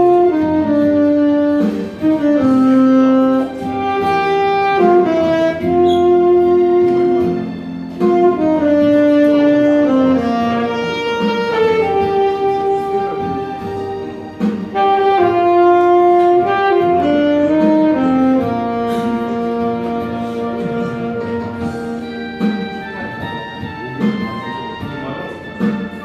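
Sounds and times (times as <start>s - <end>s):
instrumental accompaniment: 0.0s - 26.0s
saxophone playing slow ballad: 0.0s - 26.0s.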